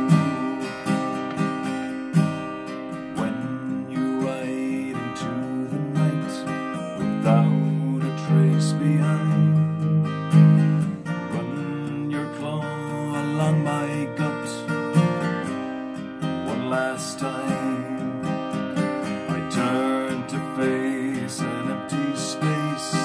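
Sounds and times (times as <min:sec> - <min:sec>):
man singing: 0:00.0 - 0:01.2, 0:03.1 - 0:15.5, 0:16.2 - 0:23.0
acoustic guitar strumming: 0:00.0 - 0:23.0.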